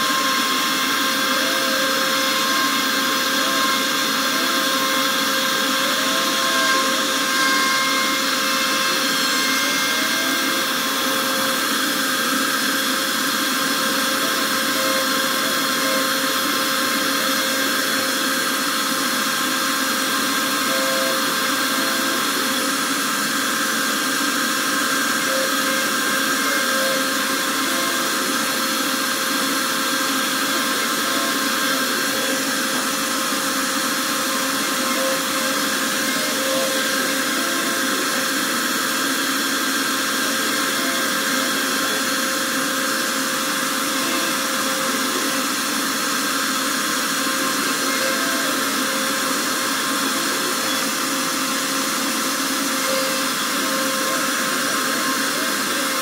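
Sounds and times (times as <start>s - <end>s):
router spindle whine cutting wood: 0.0s - 56.0s.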